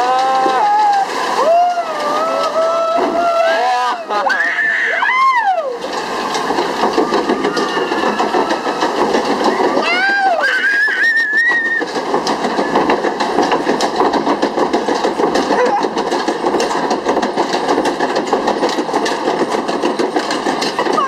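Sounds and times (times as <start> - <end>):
lift mechanism clattering: 0.0 - 21.0.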